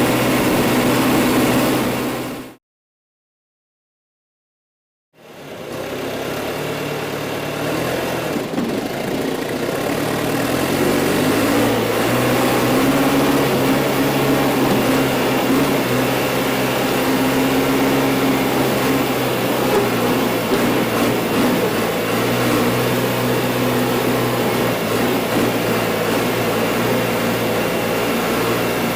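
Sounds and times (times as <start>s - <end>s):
loader engine running: 0.0s - 2.6s, 5.2s - 28.9s.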